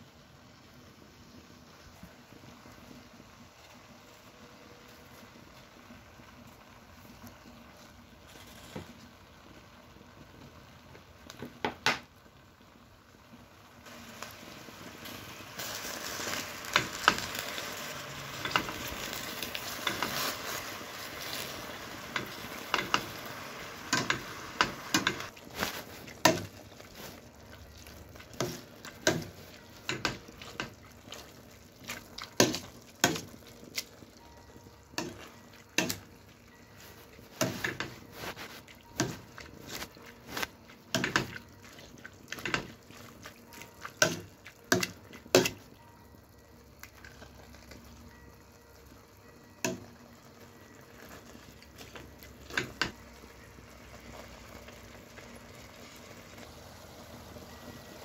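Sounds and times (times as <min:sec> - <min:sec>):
carrots sizzling in oil: 0:00.0 - 0:58.0.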